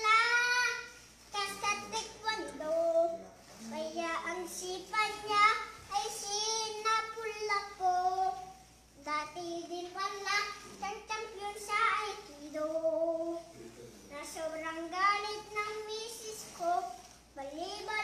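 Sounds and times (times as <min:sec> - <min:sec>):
child singing alone: 0:00.0 - 0:13.5, 0:14.1 - 0:18.0.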